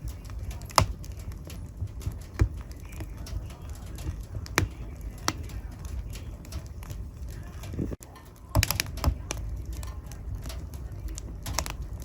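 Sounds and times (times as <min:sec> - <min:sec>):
burning wood popping: 0:00.0 - 0:12.0
low flame rumble: 0:00.0 - 0:12.0.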